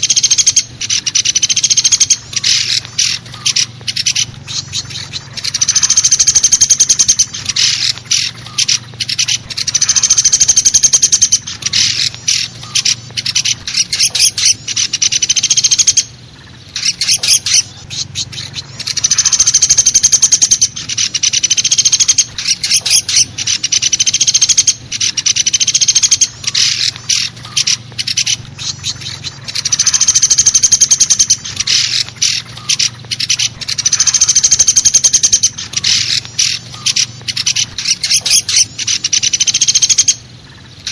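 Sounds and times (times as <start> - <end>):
woodpecker rattling calls: 0.0 - 40.9.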